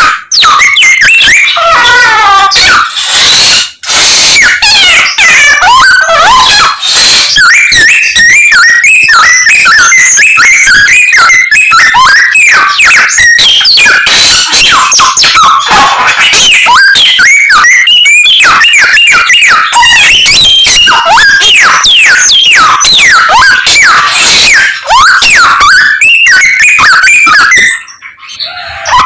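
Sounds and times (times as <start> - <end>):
songbird singing whistles and trills: 0.0 - 29.0.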